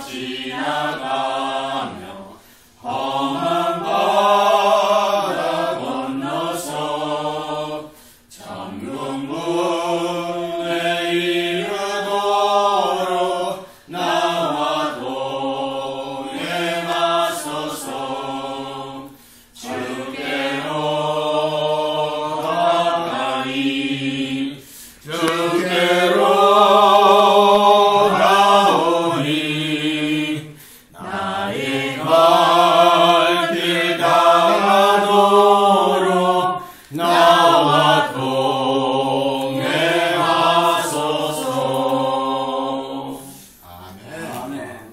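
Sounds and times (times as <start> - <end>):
group singing unaccompanied: 0.0 - 44.9.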